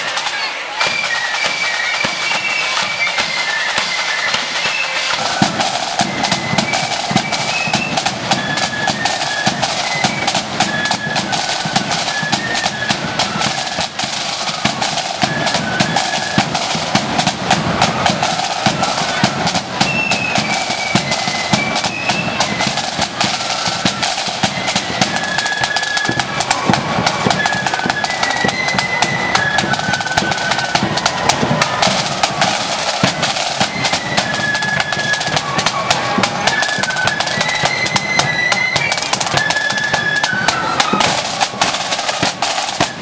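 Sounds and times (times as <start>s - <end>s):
flute melody: 0.0s - 43.0s
snare drum rolls: 0.0s - 43.0s.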